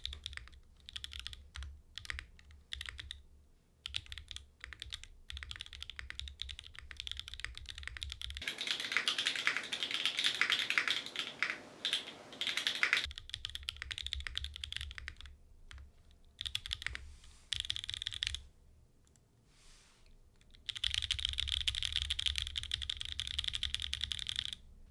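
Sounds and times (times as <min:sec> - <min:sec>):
typing on mechanical keyboard: 0:00.0 - 0:03.2, 0:03.8 - 0:18.4, 0:20.5 - 0:24.6.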